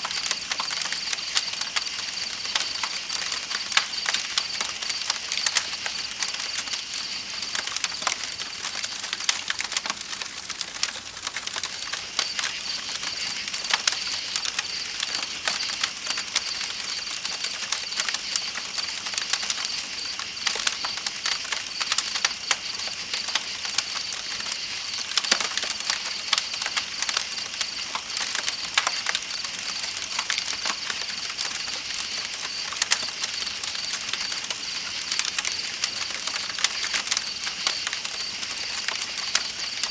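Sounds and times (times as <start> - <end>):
night insects chirping: 0.0 - 10.6, 11.6 - 39.9
campfire crackling: 0.0 - 39.9.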